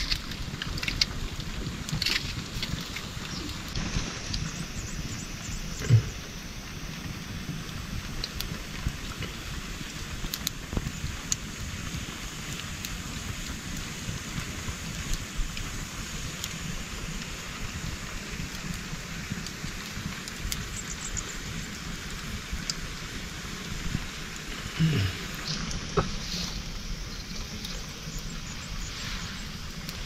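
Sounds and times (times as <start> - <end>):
heavy rain falling: 0.0 - 30.0
low constant rumble: 0.0 - 30.0.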